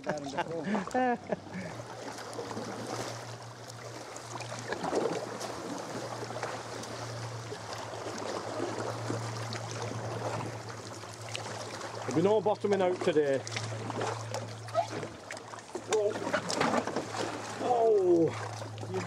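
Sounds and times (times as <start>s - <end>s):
kayak paddle strokes in water: 0.0s - 19.0s
water splashing around hull: 0.0s - 19.0s.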